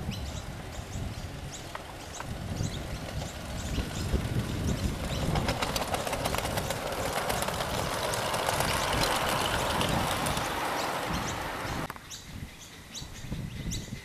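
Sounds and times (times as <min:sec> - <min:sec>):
steam locomotive exhaust beats: 0:00.0 - 0:11.9
wheels rattling on rails: 0:00.0 - 0:12.7.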